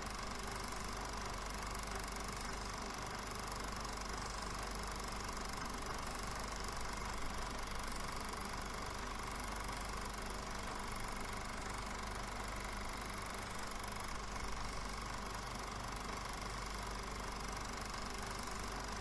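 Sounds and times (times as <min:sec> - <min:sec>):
film projector whirring: 0:00.0 - 0:19.0.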